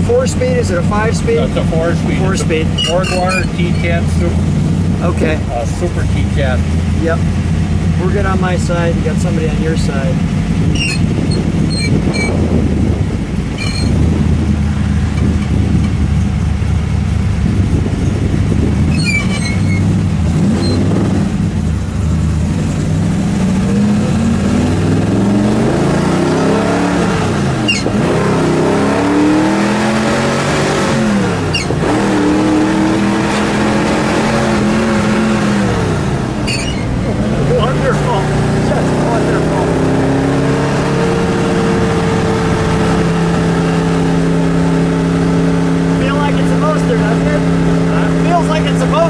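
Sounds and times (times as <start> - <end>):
car engine accelerating: 0.0 - 49.0.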